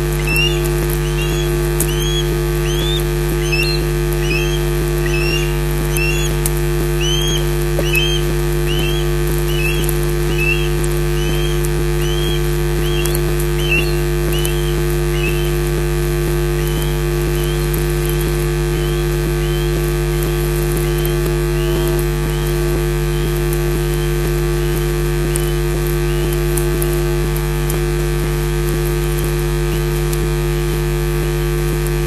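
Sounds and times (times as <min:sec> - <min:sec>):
osprey whistled call: 0:00.0 - 0:27.3
electrical hum: 0:00.0 - 0:32.0.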